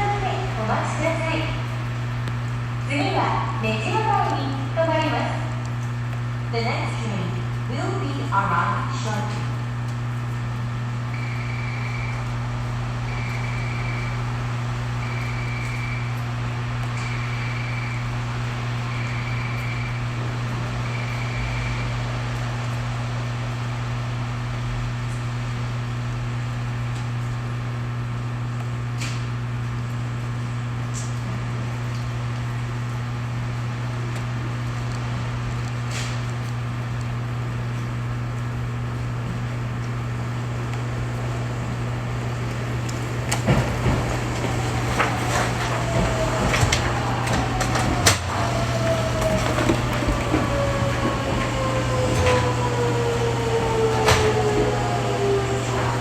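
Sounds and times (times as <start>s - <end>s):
train equipment hum: 0.0s - 29.2s, 30.0s - 56.0s.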